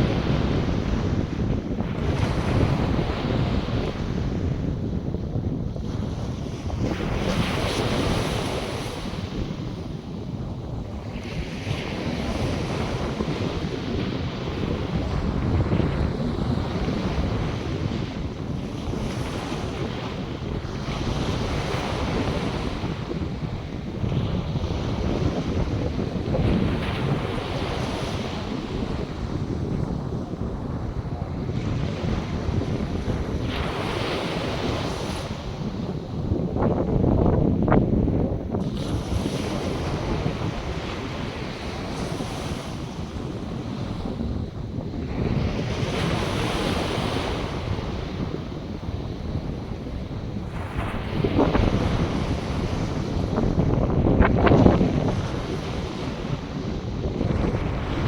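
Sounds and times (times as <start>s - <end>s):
surf washing onto beach: 0.0s - 58.0s
wind rumbling on microphone: 0.0s - 58.0s.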